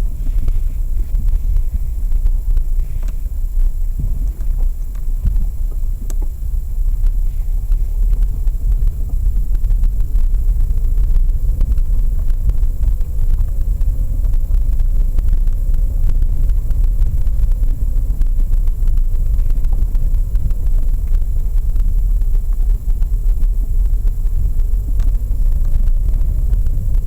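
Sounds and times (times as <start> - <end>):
car driving rumble: 0.0 - 27.0.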